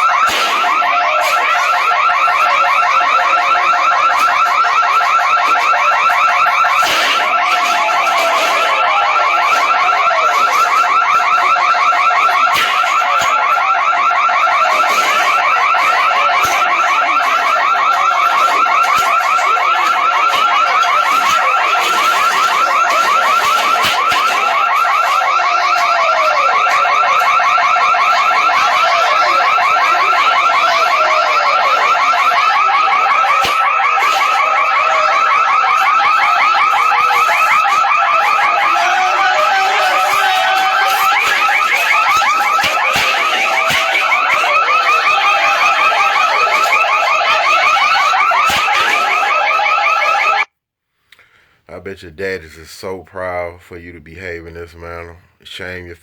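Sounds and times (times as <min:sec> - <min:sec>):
electronic alarm pulsing high tone: 0:00.0 - 0:50.5.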